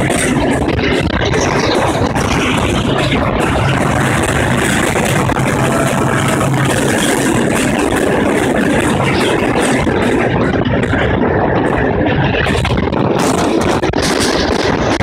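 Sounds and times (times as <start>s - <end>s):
train rumbling through tunnel: 0.0s - 15.0s.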